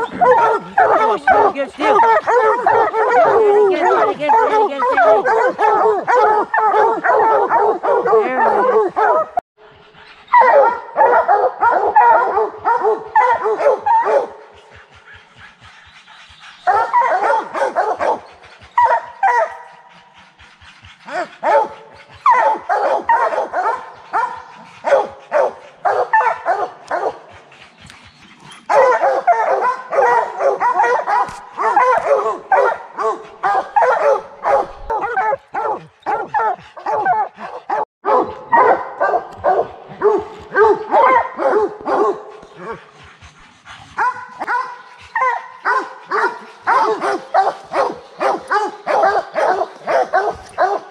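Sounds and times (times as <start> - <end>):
many dogs barking: 0.0 - 50.9.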